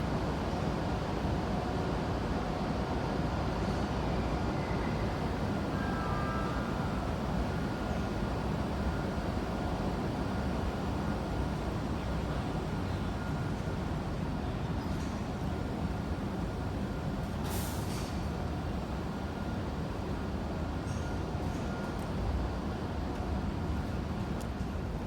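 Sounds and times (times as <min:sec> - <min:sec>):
train low rumble: 0:00.0 - 0:25.0.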